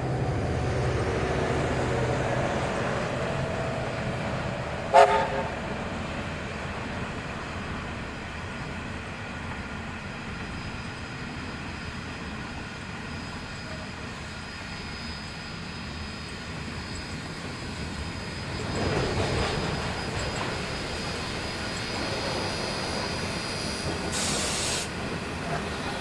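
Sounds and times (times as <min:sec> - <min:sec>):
steam locomotive approaching: 0:00.0 - 0:26.0.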